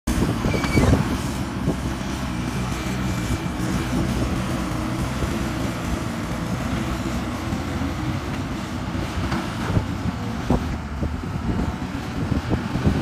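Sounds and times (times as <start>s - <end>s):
diesel engines running under load: 0.1s - 13.0s.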